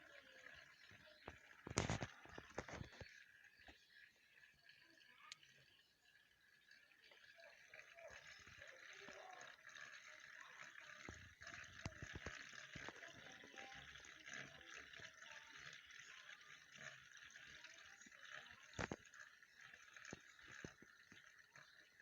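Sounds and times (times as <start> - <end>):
faint rain: 0.0 - 22.0
water trickling and dripping: 0.0 - 22.0.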